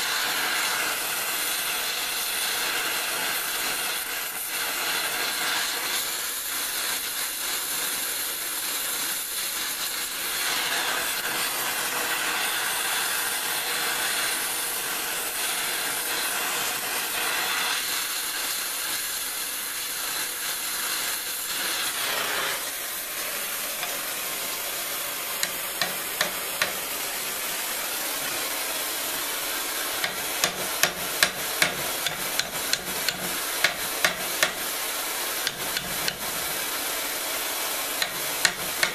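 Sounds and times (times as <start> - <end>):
torch hissing steadily: 0.0 - 38.9.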